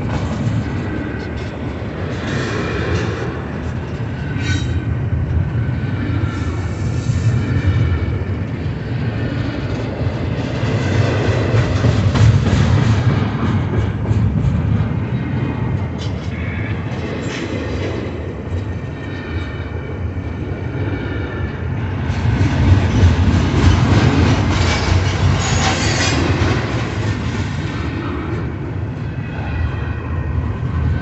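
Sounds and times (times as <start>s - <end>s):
train cars clanking: 0.0s - 5.6s, 6.5s - 20.2s, 21.3s - 29.0s
steel wheels rumbling on rail: 0.0s - 31.0s.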